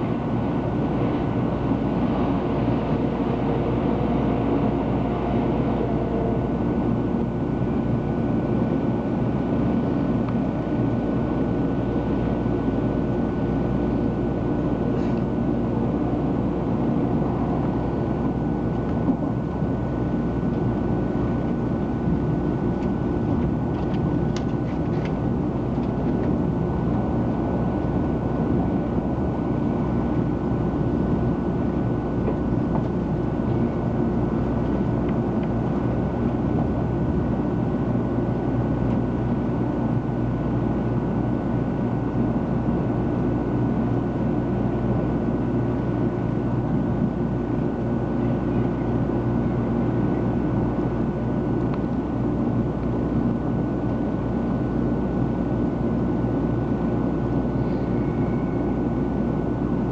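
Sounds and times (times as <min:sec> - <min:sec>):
train rumbling on rails: 0:00.0 - 0:53.3, 0:56.2 - 0:59.9
faint steady hums: 0:00.0 - 0:59.9.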